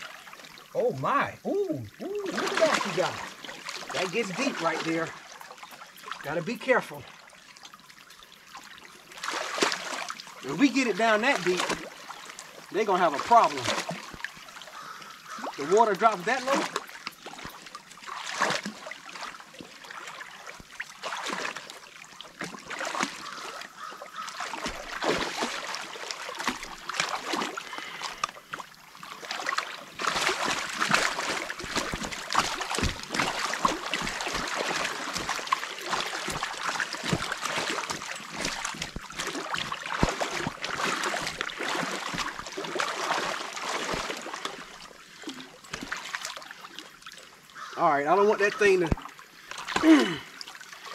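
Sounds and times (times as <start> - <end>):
water splashing and trickling: 0.0 - 50.9.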